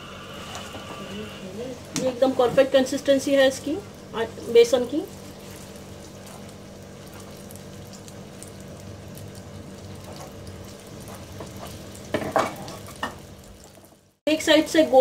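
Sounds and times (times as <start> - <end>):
gentle sizzle of deep-frying: 0.0 - 15.0.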